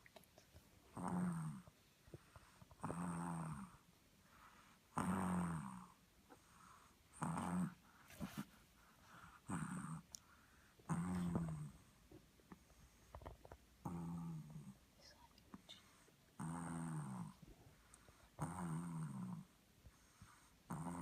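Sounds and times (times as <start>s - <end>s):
dog snoring: 0.9s - 8.4s, 9.0s - 11.9s, 12.6s - 14.8s, 15.8s - 21.0s.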